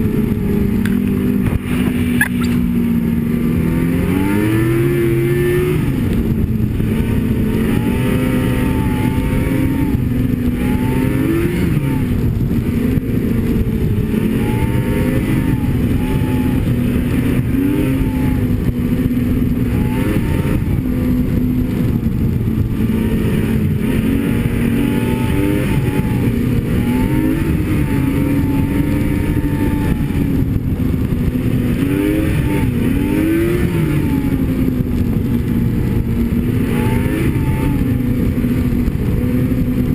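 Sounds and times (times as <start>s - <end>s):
snowmobile engine revving: 0.0s - 39.9s
track and wind noise: 0.0s - 39.9s.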